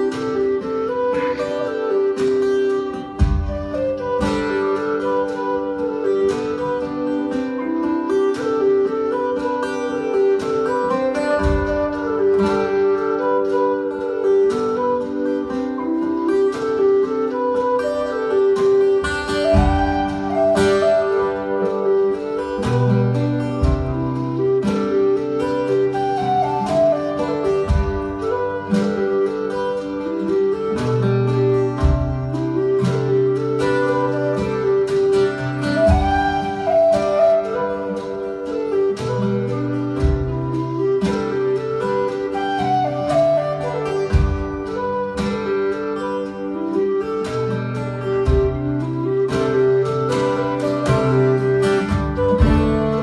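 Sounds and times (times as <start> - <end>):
acoustic guitar strumming: 0.0 - 53.0
low whistle melody: 0.0 - 53.0.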